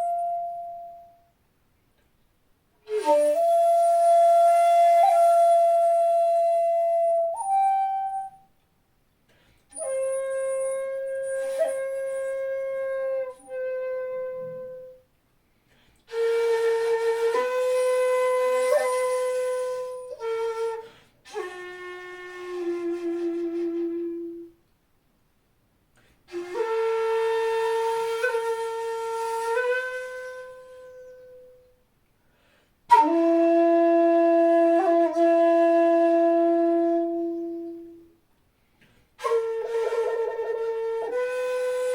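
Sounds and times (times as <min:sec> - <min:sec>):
bamboo flute long held notes: 0:00.0 - 0:01.3, 0:02.8 - 0:08.5, 0:09.7 - 0:15.1, 0:16.1 - 0:24.6, 0:26.3 - 0:31.8, 0:32.9 - 0:38.2, 0:39.2 - 0:41.9.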